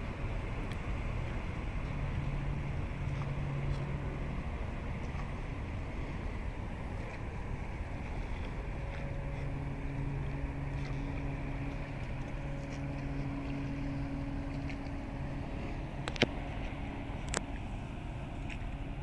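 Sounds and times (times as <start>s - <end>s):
ship engine droning: 0.0s - 19.0s
wind rumbling on microphone: 0.0s - 19.0s.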